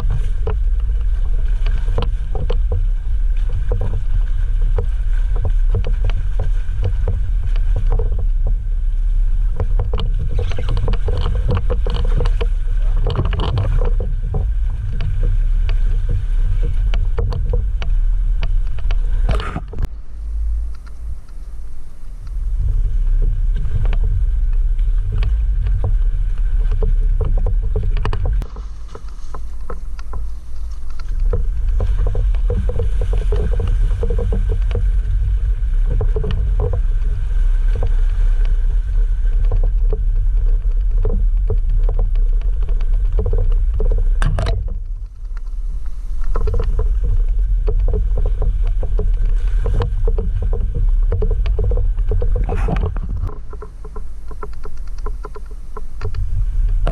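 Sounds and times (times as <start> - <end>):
knocks and rattles: 0.0 - 8.6, 9.5 - 20.0, 22.3 - 38.6, 39.2 - 56.9
low engine rumble: 0.0 - 56.9.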